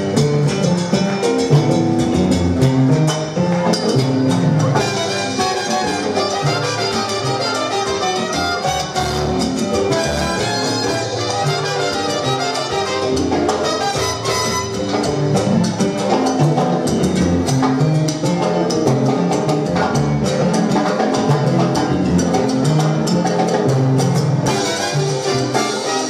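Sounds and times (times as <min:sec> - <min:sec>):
salsa band playing: 0:00.0 - 0:26.0.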